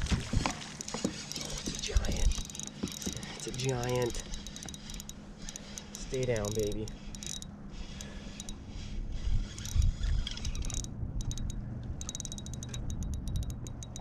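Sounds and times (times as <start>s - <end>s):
fishing reel clicking: 0.7s - 8.6s, 9.2s - 14.0s.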